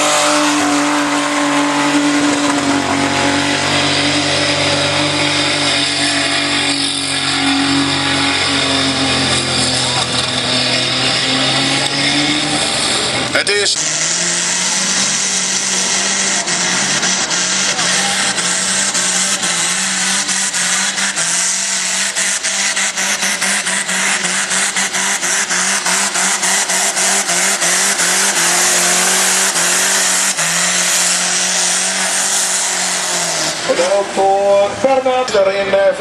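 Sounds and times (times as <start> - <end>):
engine running at high revs: 0.0 - 35.6.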